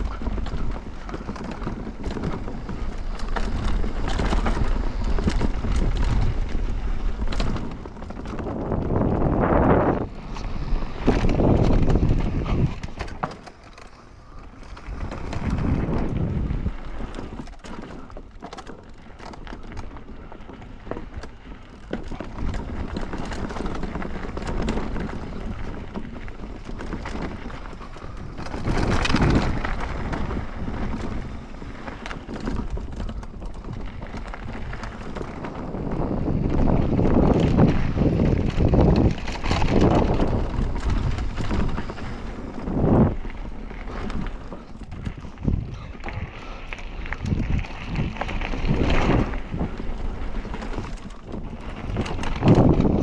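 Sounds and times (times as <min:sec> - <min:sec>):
wind buffeting microphone: 0:00.0 - 0:18.3, 0:18.9 - 0:53.0
bike rattling over bumps: 0:00.0 - 0:53.0
tyres crunching over dirt: 0:00.0 - 0:53.0.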